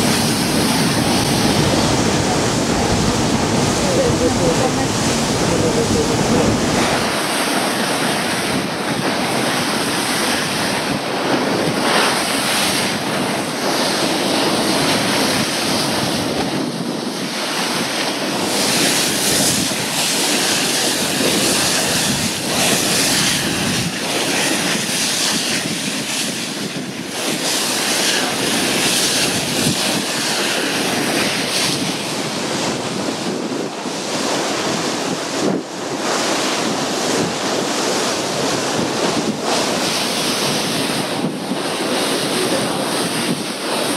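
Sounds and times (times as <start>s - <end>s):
water rushing along boat hull: 0.0s - 43.9s
wind buffeting microphone: 0.0s - 43.9s.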